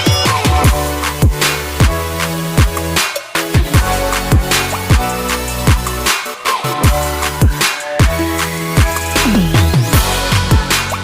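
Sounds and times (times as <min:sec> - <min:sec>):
electronic hip-hop beat: 0:00.0 - 0:11.0.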